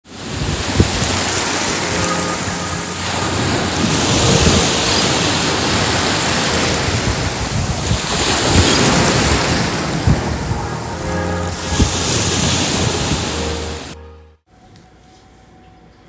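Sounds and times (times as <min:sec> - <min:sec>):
wind buffeting microphone: 0:00.1 - 0:14.0
ocean surf breaking: 0:00.1 - 0:14.1.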